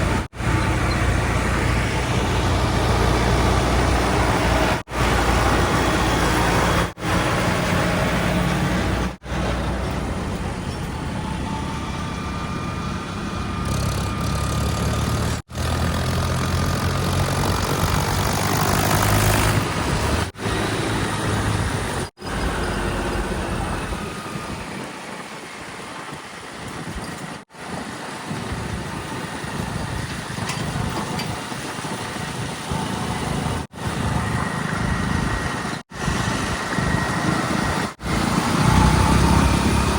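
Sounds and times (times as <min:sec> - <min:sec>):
heavy diesel machinery engines: 0:00.0 - 0:39.9.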